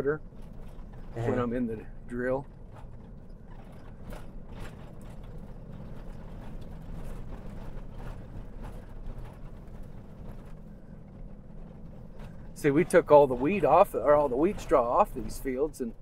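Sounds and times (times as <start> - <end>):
light rattles and knocks: 0.0 - 16.0
vehicle engine and tyre rumble: 0.0 - 16.0.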